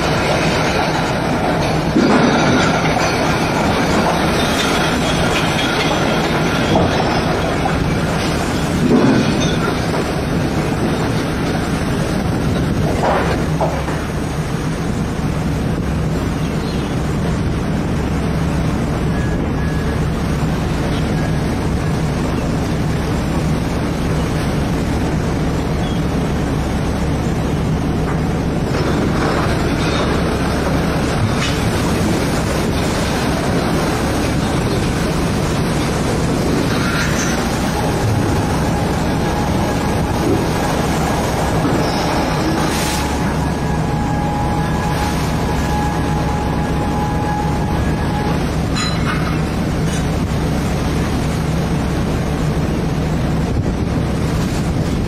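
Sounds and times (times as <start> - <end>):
boat engine droning: 0.0 - 55.0
sea noise: 0.0 - 55.0
wind: 0.0 - 55.0.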